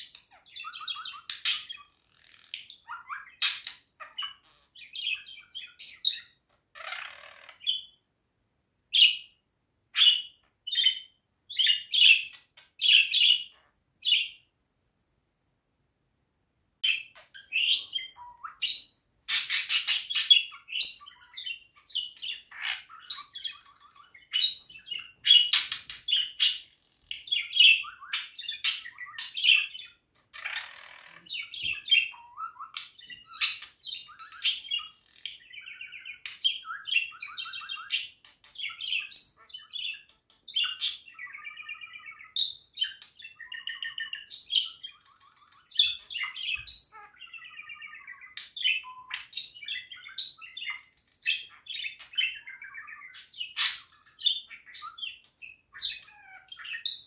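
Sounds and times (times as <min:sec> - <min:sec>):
budgerigar warbling and chirping: 0:00.0 - 0:08.0, 0:08.9 - 0:14.5, 0:16.8 - 0:57.0.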